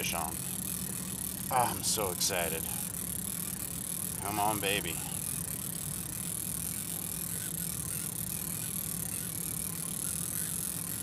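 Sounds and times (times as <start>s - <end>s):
electric motor whirring with rattle: 0.0s - 11.0s.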